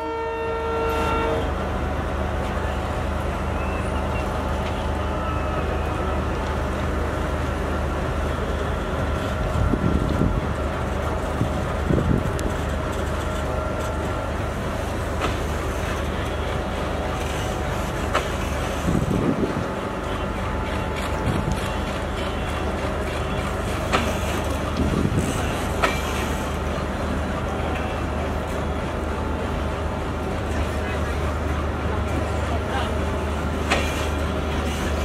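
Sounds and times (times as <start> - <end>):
locomotive engine drone: 0.0 - 35.0.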